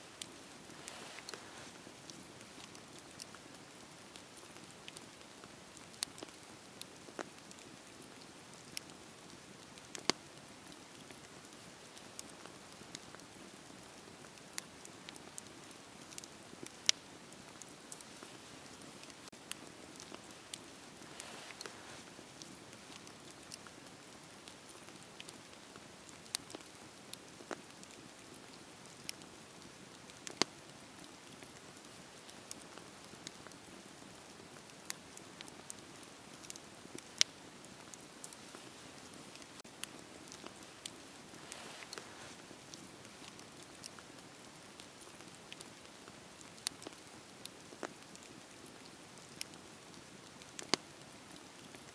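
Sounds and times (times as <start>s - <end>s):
fireplace fire crackling: 0.0s - 51.9s.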